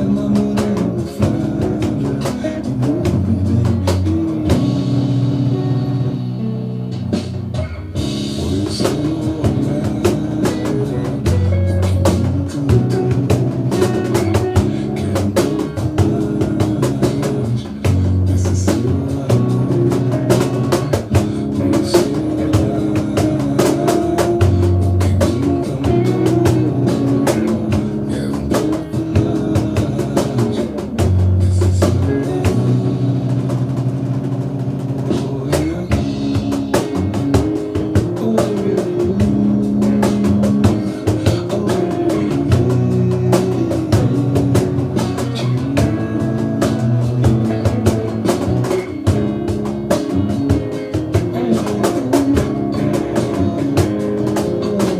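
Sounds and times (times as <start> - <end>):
music with drums bass and guitar: 0.0 - 54.9.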